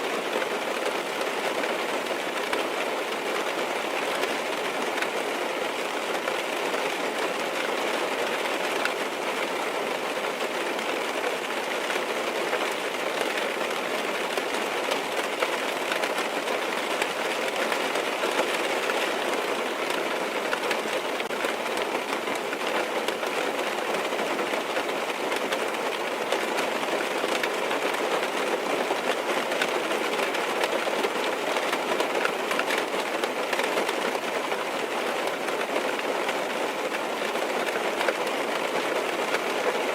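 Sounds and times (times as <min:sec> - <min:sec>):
rain tapping on car roof: 0:00.1 - 0:39.9.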